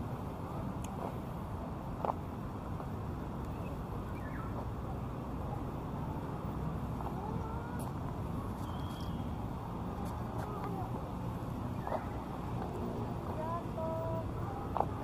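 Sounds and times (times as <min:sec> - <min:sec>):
low hum of road traffic: 0:00.0 - 0:15.0.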